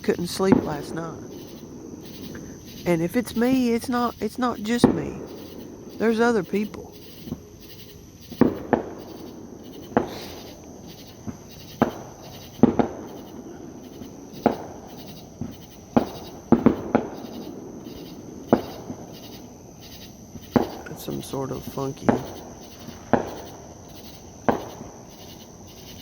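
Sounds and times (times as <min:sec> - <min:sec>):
fireworks bangs echoing: 0:00.0 - 0:25.3
night insects chorus: 0:00.0 - 0:26.0.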